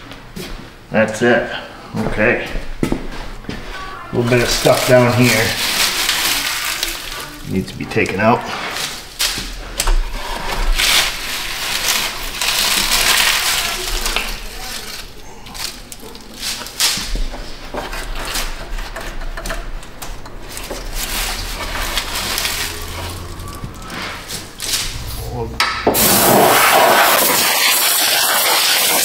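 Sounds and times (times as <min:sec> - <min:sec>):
rustling and scraping: 0:02.1 - 0:27.9.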